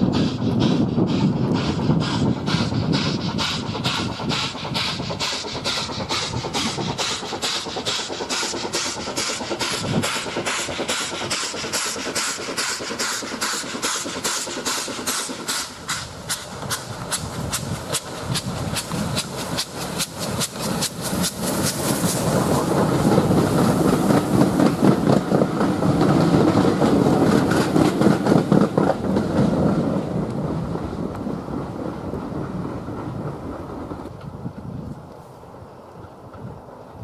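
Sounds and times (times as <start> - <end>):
steam locomotive chimney exhaust beating: 0.0 - 37.0
train coaches rumbling past: 0.0 - 37.0
wheels clacking over rail joints: 0.0 - 37.0.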